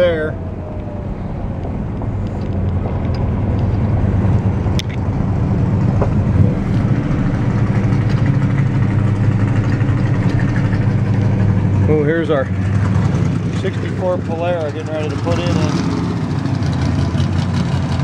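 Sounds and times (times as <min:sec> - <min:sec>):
car engine low drone: 0:00.0 - 0:18.0
road noise: 0:00.0 - 0:18.0.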